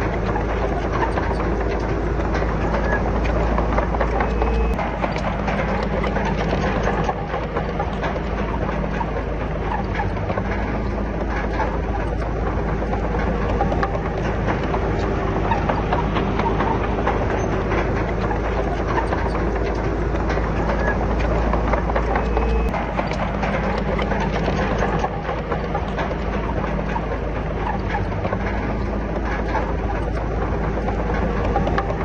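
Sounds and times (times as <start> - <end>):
bulldozer diesel engine running: 0.0 - 32.0
steel tracks and rock clanking: 0.0 - 32.0.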